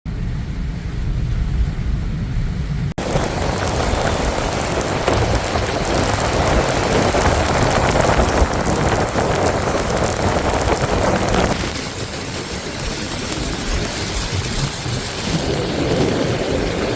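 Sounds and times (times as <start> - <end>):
low rumble: 0.1 - 16.9
heavy rain pouring: 2.8 - 16.9.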